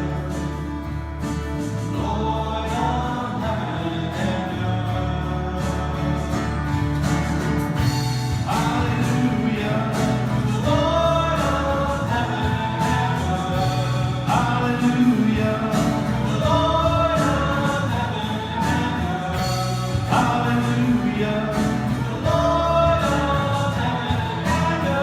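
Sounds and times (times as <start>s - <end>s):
instrumental accompaniment: 0.0s - 25.0s
steady bass line: 0.0s - 25.0s
worship song singing: 0.0s - 25.0s.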